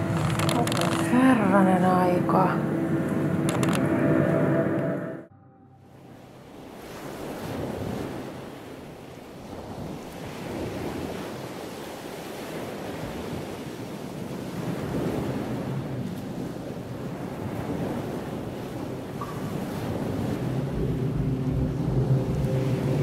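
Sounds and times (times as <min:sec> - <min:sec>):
sea surf waves: 0:00.0 - 0:05.2, 0:05.8 - 0:23.0.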